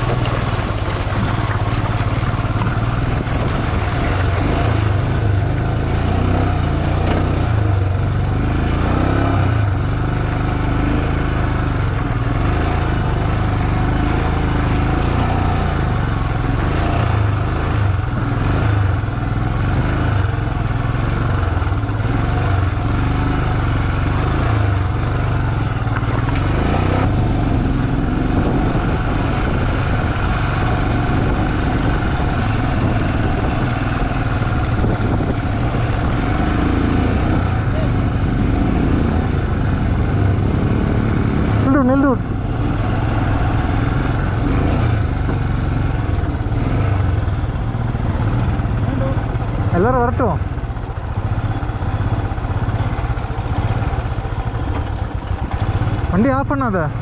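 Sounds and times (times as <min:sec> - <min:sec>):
motorcycle engine droning: 0:00.0 - 0:57.0
road and wind noise: 0:00.0 - 0:57.0.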